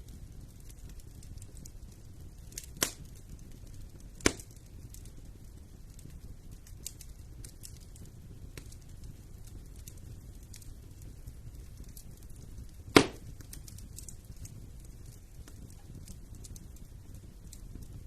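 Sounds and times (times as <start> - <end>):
fire crackles and pops: 0.0 - 18.0
fire rumbling: 0.0 - 18.0.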